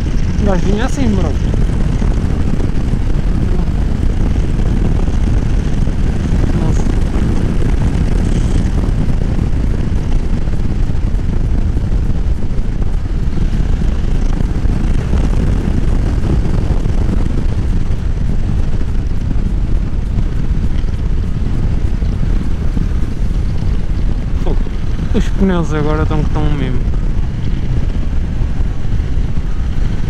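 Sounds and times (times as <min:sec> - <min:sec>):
motorcycle engine running: 0:00.0 - 0:30.0
wind buffeting microphone: 0:00.0 - 0:30.0.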